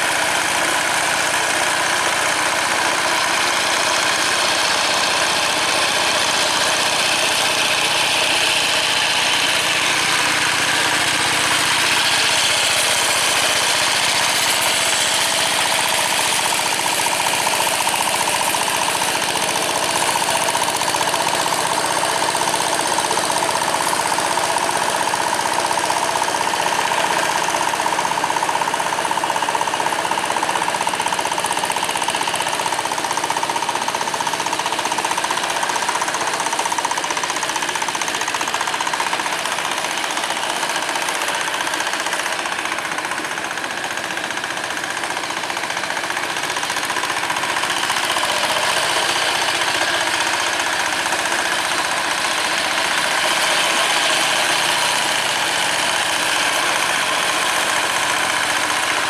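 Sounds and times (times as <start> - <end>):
diesel engine clattering: 0.0 - 59.0
wheels driving through mud: 0.0 - 59.0.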